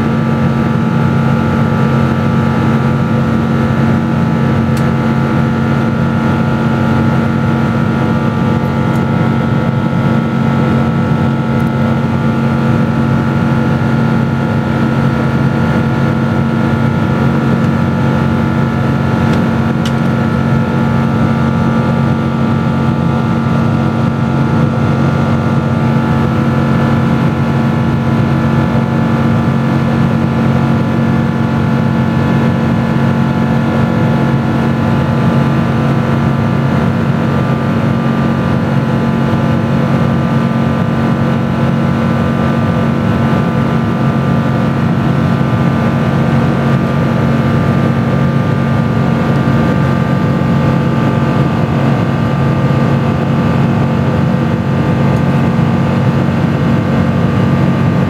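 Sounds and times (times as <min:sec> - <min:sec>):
jet engine hum: 0:00.0 - 0:58.0.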